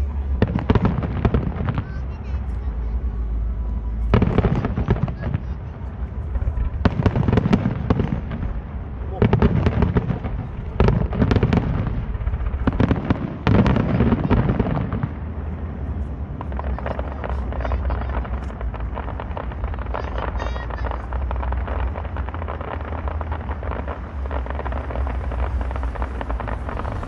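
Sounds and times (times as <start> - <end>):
fireworks crackling: 0.0 - 27.0
low rumble: 0.0 - 27.0.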